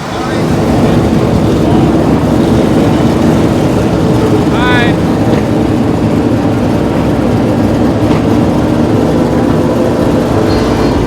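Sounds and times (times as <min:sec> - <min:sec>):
vehicle engine running steadily: 0:00.0 - 0:11.0.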